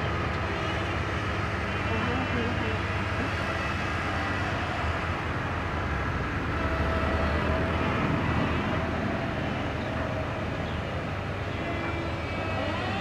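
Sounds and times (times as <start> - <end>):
road roller diesel engine running: 0.0 - 13.0.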